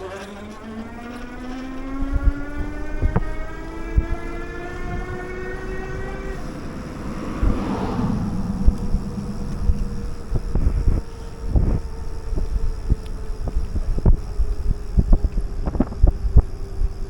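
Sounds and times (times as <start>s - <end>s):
vehicle engine accelerating: 0.0s - 17.0s
vehicle passing: 0.2s - 14.7s
wind buffeting microphone: 0.3s - 17.0s.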